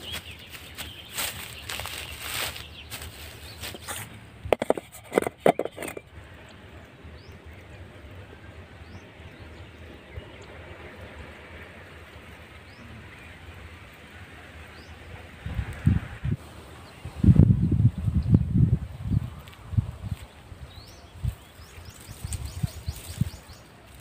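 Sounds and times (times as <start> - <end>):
open-air ambience: 0.0 - 24.0.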